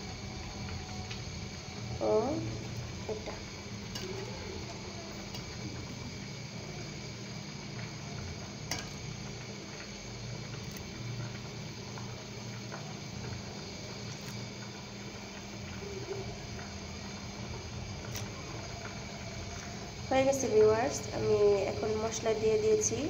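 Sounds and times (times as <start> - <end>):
low steady hum: 0.0 - 23.0
milk bubbling in a pot: 0.0 - 23.0.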